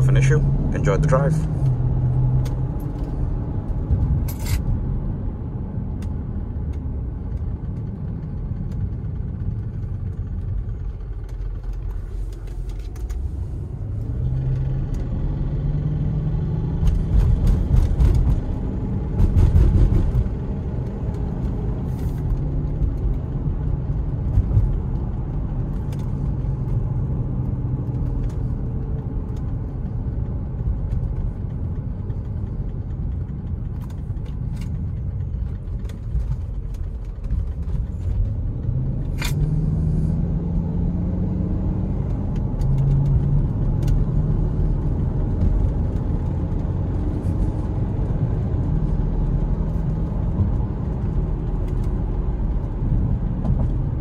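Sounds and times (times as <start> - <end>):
car engine accelerating: 0.0 - 54.0
tyre and road rumble: 0.0 - 54.0.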